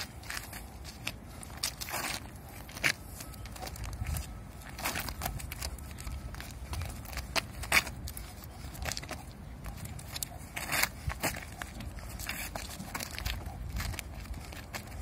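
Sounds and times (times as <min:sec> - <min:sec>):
shoes scuffing on gritty concrete: 0:00.0 - 0:15.0.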